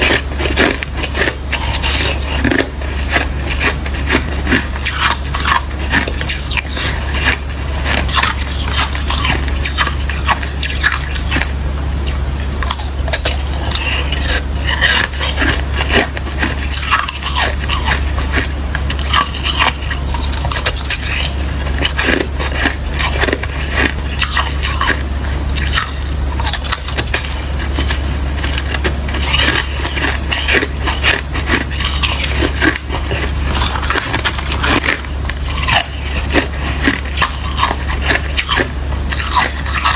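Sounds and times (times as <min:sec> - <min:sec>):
chewing slushy ice: 0:00.0 - 0:39.9.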